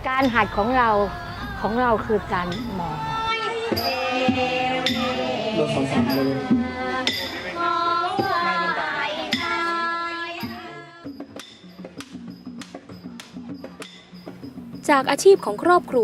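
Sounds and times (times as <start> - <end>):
clinking percussion: 0.0 - 16.0.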